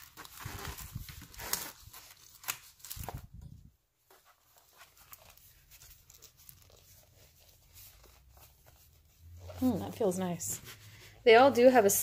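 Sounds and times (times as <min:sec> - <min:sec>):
paper pages rustling: 0:00.0 - 0:11.7.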